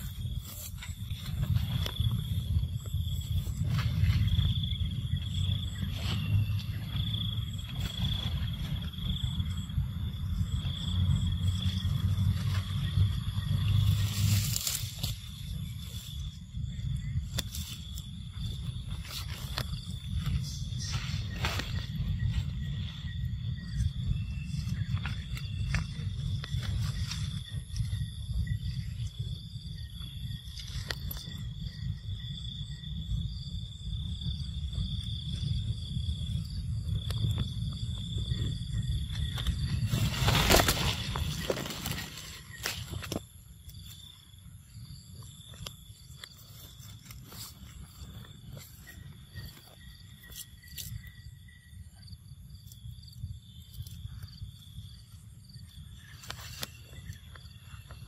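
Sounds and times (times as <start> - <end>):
high-pitched insect drone: 0.0 - 58.0
wind rumble on microphone: 0.0 - 58.0.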